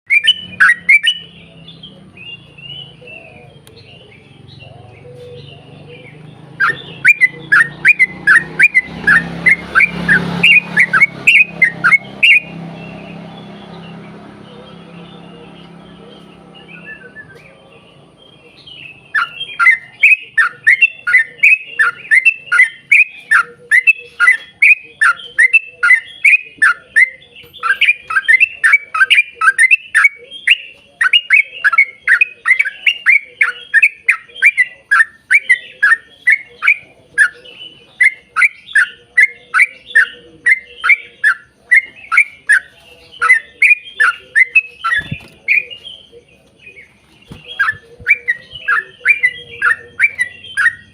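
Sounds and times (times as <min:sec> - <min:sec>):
bird singing falling notes: 0:00.1 - 0:50.9.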